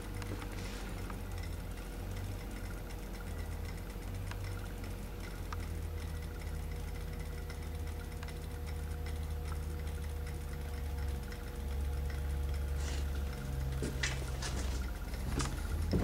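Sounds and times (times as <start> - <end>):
faint ticking of strobes: 0.0 - 15.9
low electrical hum: 0.0 - 16.0.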